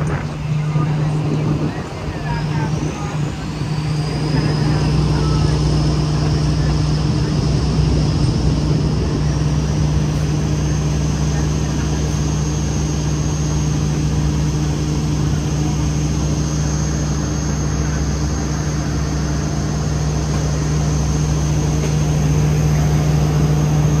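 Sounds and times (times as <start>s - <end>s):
train engine drone: 0.0s - 24.0s.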